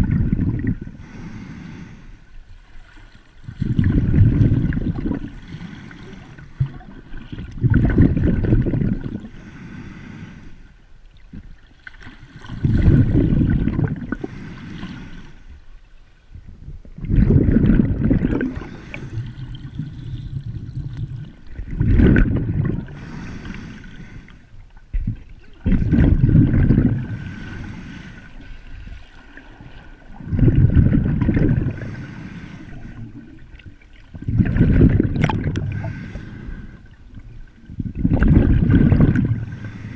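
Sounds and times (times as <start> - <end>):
muffled underwater rushing: 0.0 - 2.0, 2.6 - 15.7, 16.3 - 39.9.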